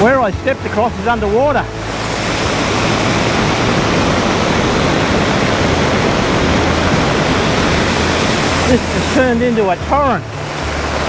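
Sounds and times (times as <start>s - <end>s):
floodwater rushing down a creek: 0.0s - 11.0s.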